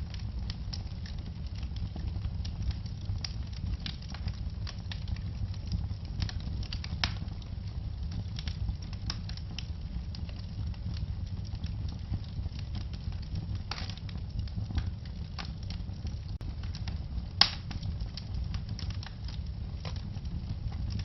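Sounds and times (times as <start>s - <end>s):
low rumble of burning: 0.0s - 21.0s
wood fire crackling and popping: 0.0s - 21.0s.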